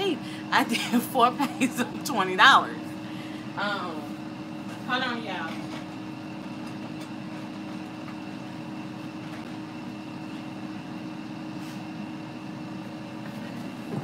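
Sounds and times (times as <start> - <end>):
appliance fan hum: 0.0 - 14.0.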